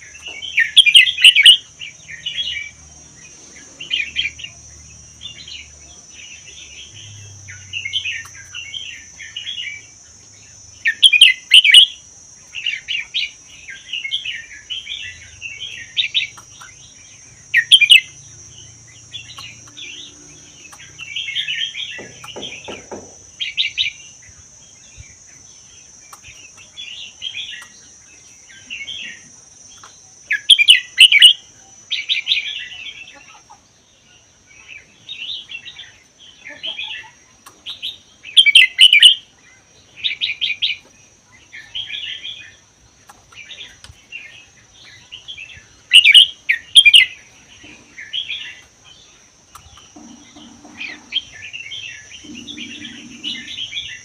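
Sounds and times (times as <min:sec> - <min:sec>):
bird singing warbled phrases: 0:00.0 - 0:54.0.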